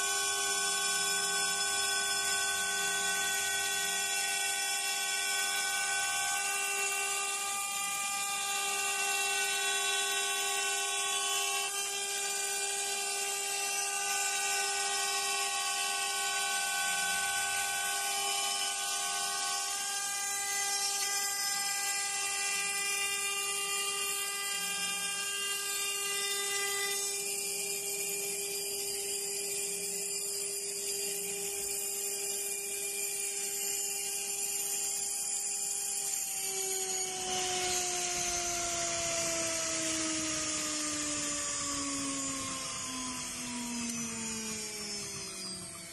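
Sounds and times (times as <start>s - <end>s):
spindle motor whining: 0.0s - 45.9s.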